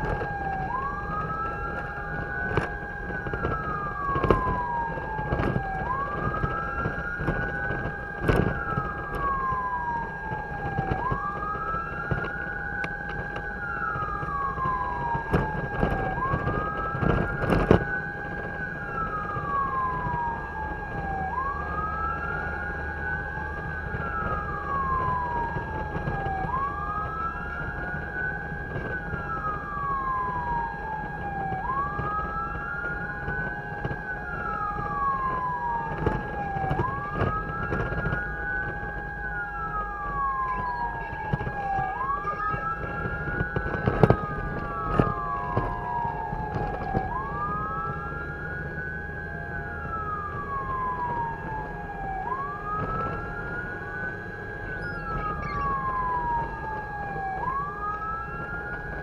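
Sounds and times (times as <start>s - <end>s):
engine and road rumble: 0.0s - 59.0s
fire truck siren wailing: 0.0s - 59.0s.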